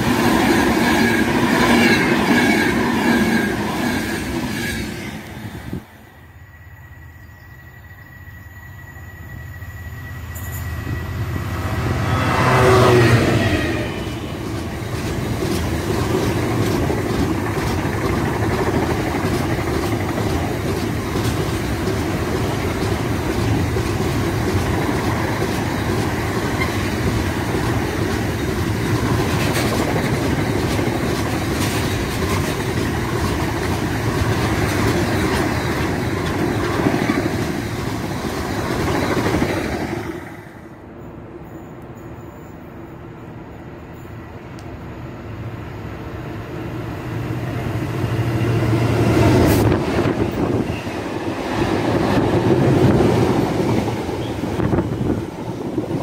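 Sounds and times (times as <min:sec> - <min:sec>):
locomotive passing: 0:00.0 - 0:56.0.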